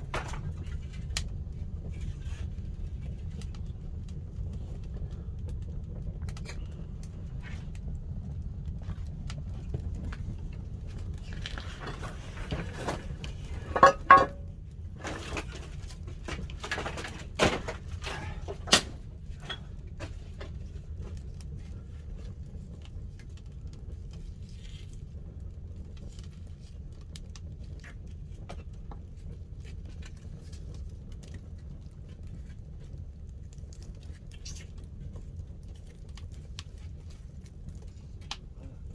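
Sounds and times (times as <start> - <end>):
fire rumbling and crackling: 0.0 - 38.9.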